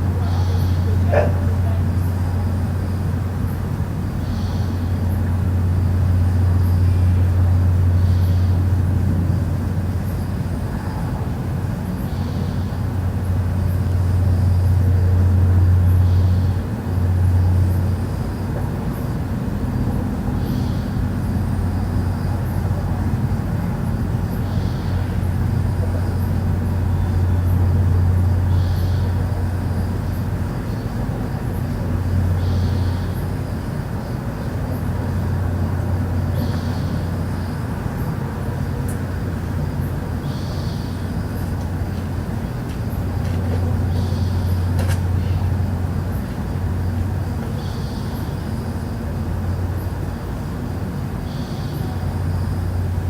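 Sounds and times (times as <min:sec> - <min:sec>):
deep droning hum: 0:00.0 - 0:53.0.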